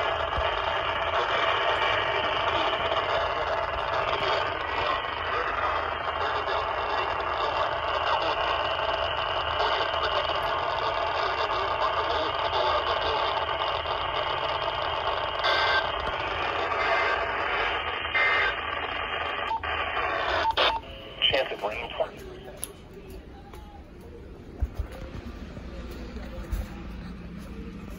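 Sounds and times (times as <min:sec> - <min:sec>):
radio static hiss: 0:00.0 - 0:22.6
sharp radio clicks: 0:00.1 - 0:26.8.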